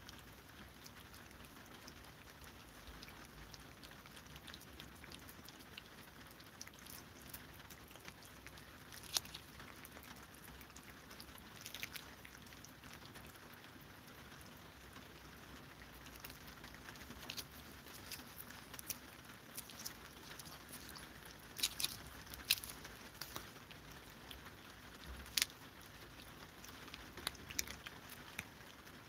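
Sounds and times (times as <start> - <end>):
cats licking wet clicks: 0.0 - 29.0.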